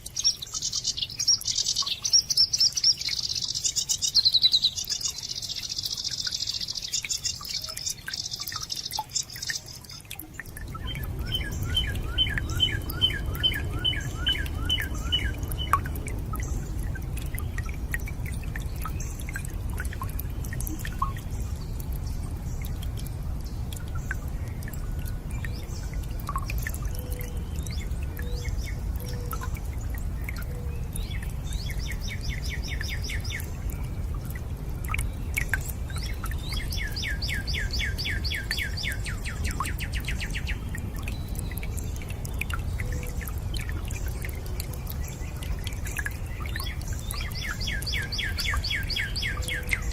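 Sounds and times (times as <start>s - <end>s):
birds singing: 0.0s - 49.9s
running water: 0.0s - 49.9s
water dripping: 0.0s - 49.9s.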